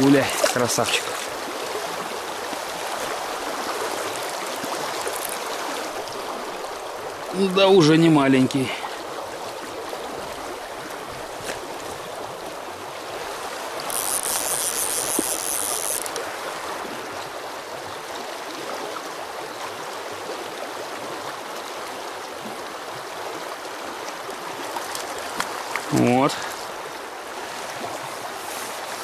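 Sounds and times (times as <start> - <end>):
river current rippling: 0.0 - 29.0.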